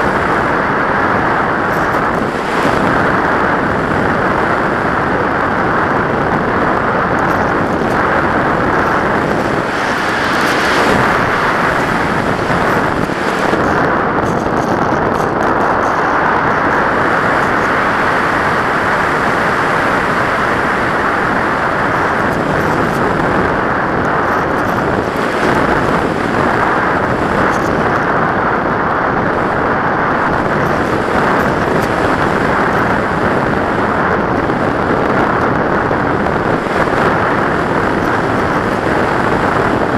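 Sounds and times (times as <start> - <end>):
airflow rushing over microphone: 0.0 - 39.9.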